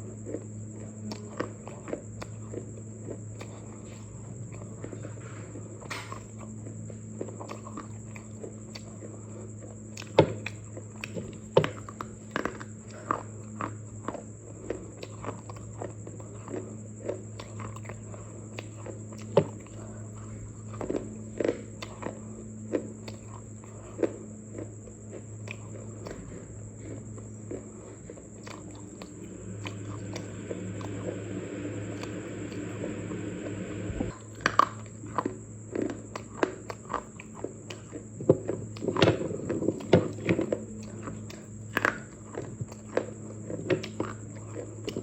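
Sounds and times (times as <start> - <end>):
dry clay being chewed: 0.0 - 45.0
electrical hum: 0.0 - 45.0.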